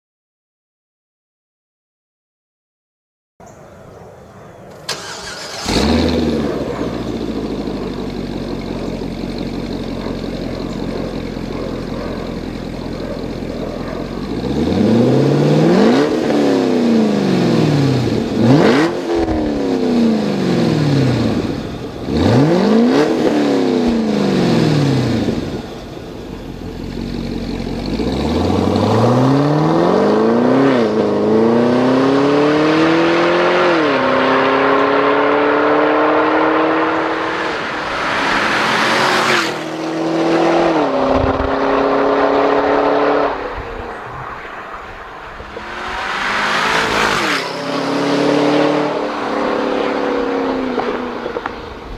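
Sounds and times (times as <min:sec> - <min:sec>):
car accelerating with gear change: 0:04.8 - 0:51.9
car engine idling and revving: 0:04.8 - 0:51.9.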